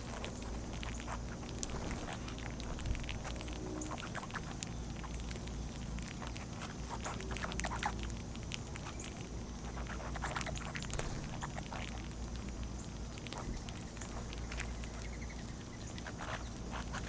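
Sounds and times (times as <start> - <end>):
bird chips: 0.0 - 17.0
steady low hum: 0.0 - 17.0.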